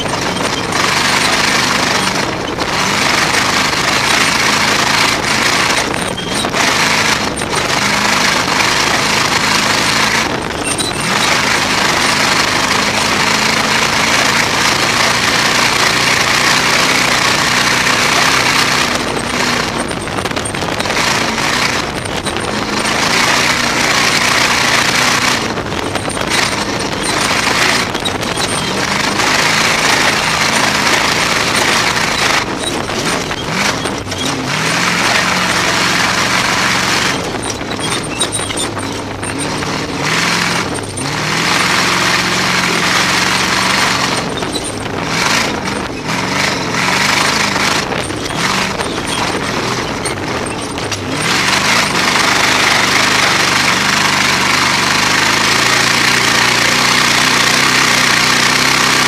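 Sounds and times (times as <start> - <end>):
car engine running hard: 0.0 - 59.0
tyre noise: 0.0 - 59.0.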